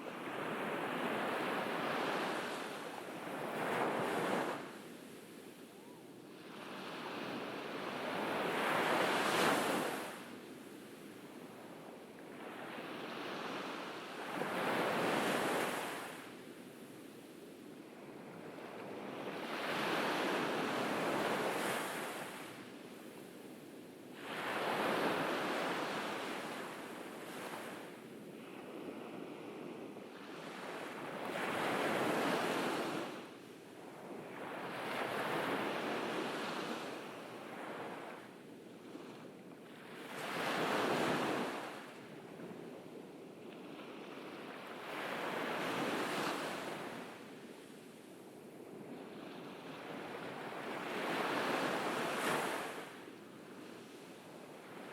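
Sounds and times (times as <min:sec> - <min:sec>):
ocean waves breaking on beach: 0:00.0 - 0:10.4, 0:17.9 - 0:54.9.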